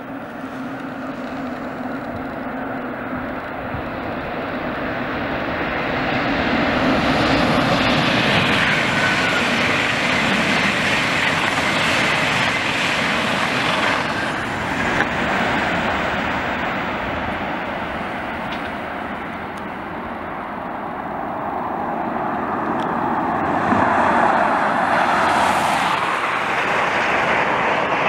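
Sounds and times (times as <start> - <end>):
electric train passing at speed: 0.0 - 28.0.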